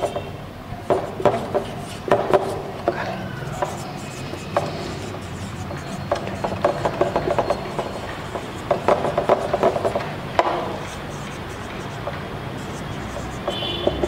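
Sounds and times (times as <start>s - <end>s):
marker scratching on whiteboard: 0.0s - 14.0s.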